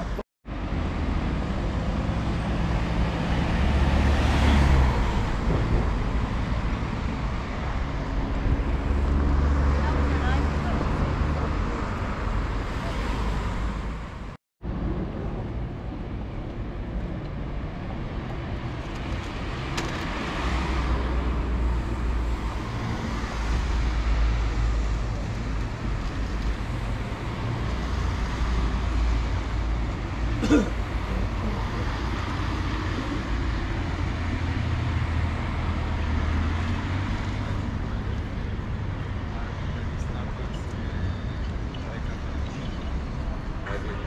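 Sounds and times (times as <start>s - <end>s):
cars passing on a street: 0.0s - 44.0s.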